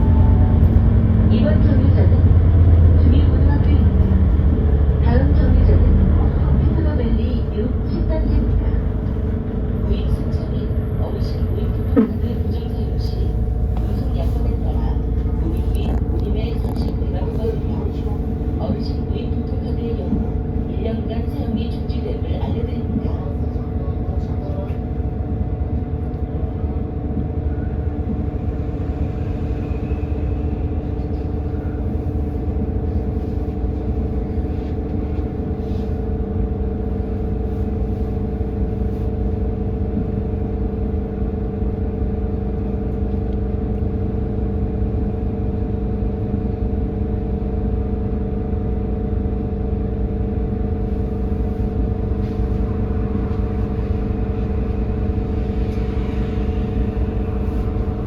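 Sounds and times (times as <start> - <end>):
bus engine droning hum: 0.0 - 58.0.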